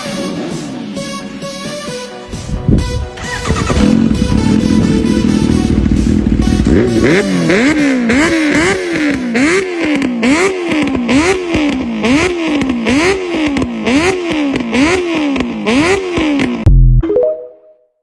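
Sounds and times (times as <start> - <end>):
motorcycle engine revving: 0.0 - 16.7.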